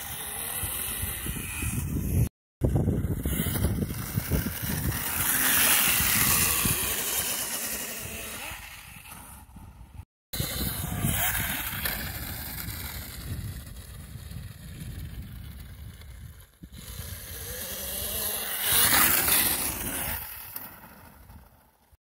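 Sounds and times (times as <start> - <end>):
wind buffeting microphone: 0.0 - 20.2
electric motorbike whine: 0.0 - 21.9.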